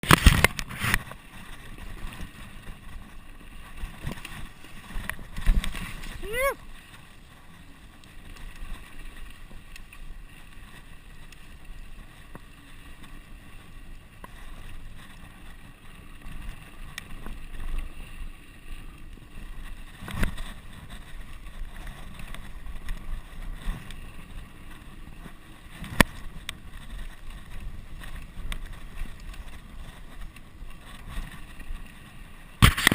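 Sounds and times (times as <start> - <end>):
bike tyres rumbling on dirt: 0.0 - 32.9
wind on camera: 0.0 - 32.9.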